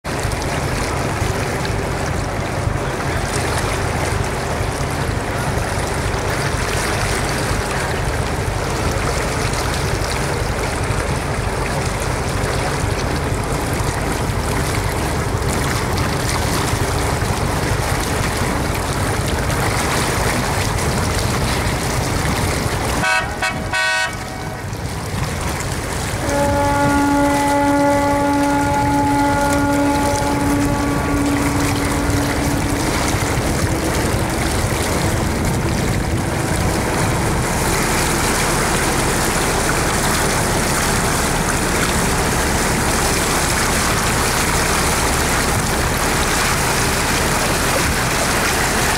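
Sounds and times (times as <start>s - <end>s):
boat engine rumble: 0.0s - 48.9s
water and wind noise: 0.0s - 48.9s
deep ship's horn blast: 0.1s - 48.9s.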